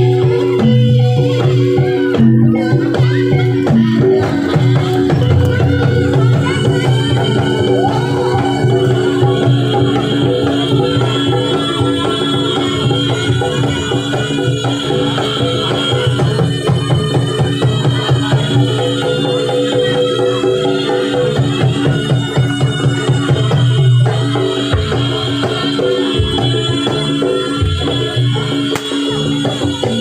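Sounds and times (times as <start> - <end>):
hand drumming: 0.0 - 25.2.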